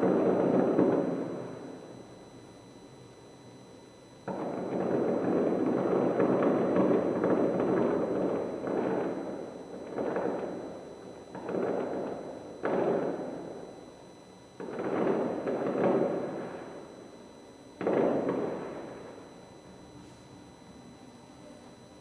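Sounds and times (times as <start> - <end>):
distant fireworks bangs and crackle: 0.0 - 2.3, 4.1 - 19.9.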